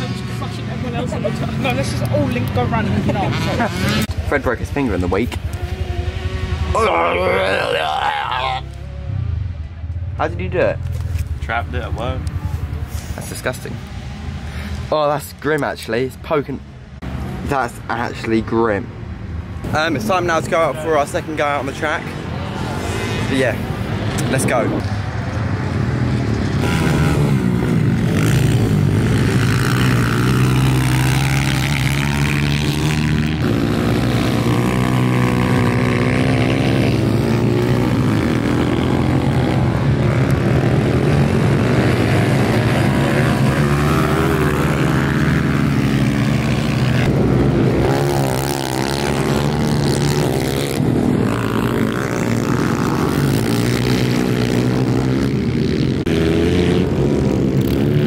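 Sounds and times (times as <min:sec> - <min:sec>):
pit bike engines revving: 0:00.0 - 0:58.0.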